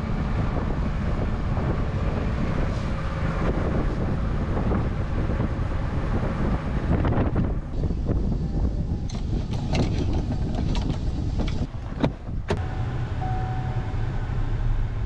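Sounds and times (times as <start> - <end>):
farm machinery engine running: 0.0 - 15.0
wind on microphone: 0.0 - 15.0.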